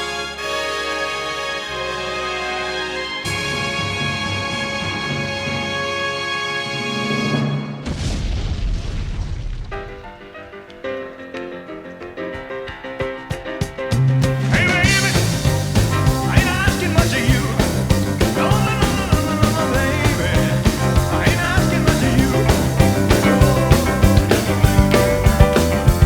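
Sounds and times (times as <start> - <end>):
rock and roll band music: 0.0 - 7.7, 10.6 - 26.0.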